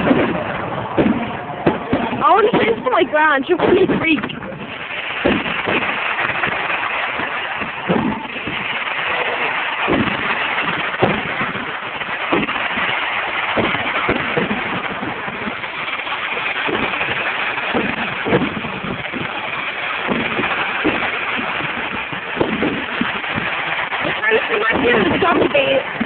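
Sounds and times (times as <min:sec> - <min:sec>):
firework shells bursting: 0:00.0 - 0:26.0
fireworks crackling hiss: 0:00.0 - 0:26.0.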